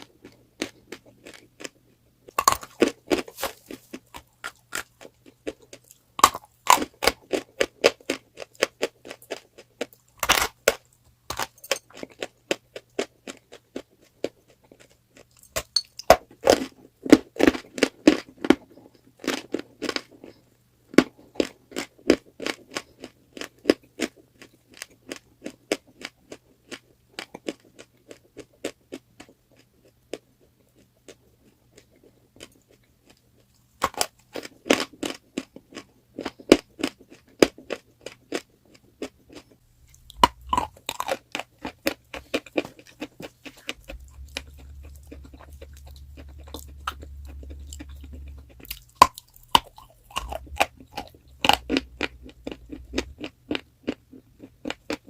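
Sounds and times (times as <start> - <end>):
chalk crunching being chewed: 0.0 - 55.0
faint steady hum: 0.0 - 55.0.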